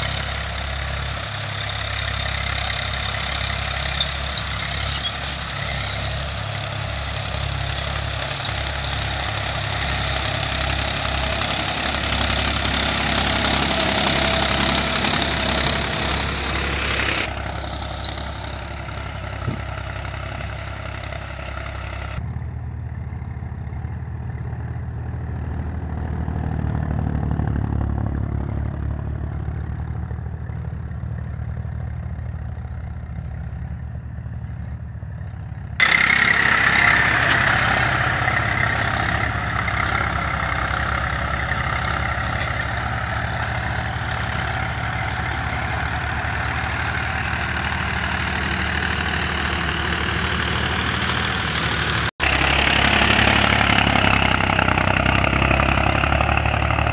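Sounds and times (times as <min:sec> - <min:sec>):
tractor diesel engines running: 0:00.0 - 0:56.9.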